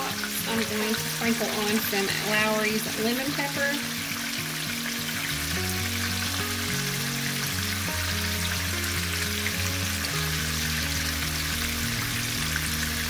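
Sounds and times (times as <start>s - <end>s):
meat sizzling in oil: 0.0s - 13.0s
music with low sustained notes: 0.0s - 13.0s.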